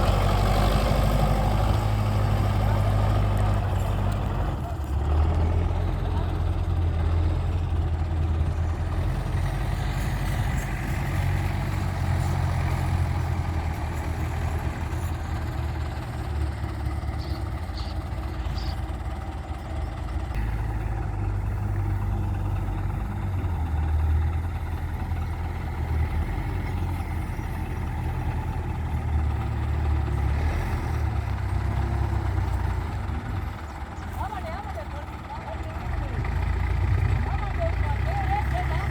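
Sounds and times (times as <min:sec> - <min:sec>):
tractor engine rumbling: 0:00.0 - 0:38.9.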